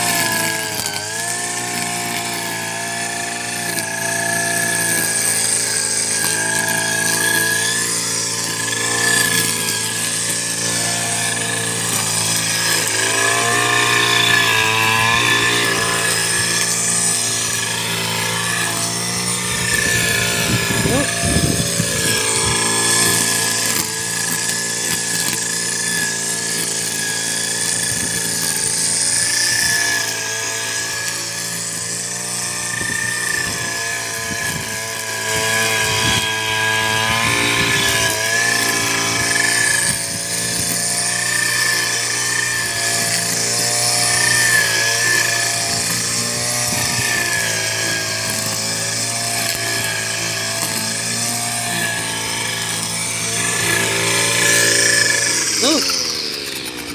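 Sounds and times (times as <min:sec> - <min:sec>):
brush cutter engine drone: 0:00.0 - 0:56.9.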